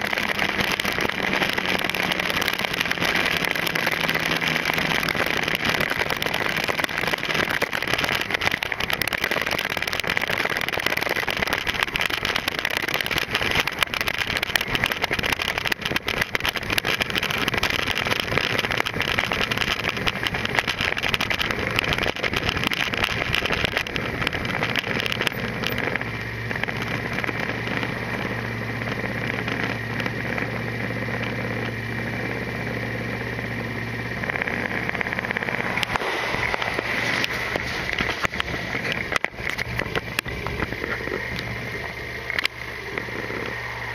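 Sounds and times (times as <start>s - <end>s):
motorcycle engine: 0.0s - 43.9s.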